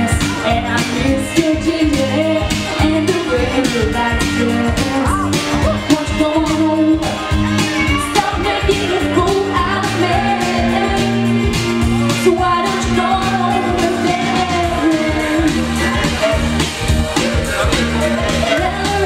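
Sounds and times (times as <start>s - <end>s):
woman singing into a microphone: 0.0s - 16.4s, 18.1s - 19.0s
band playing through pa: 0.0s - 19.0s
steady drum beat: 0.0s - 19.0s
sustained bass notes: 0.0s - 19.0s.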